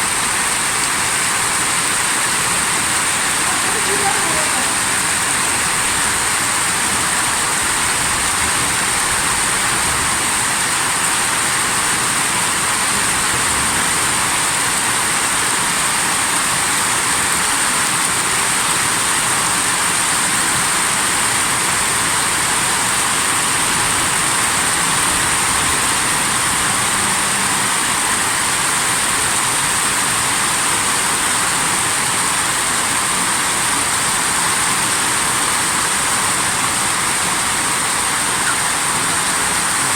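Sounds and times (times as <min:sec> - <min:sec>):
torrential water rushing: 0:00.0 - 0:39.9.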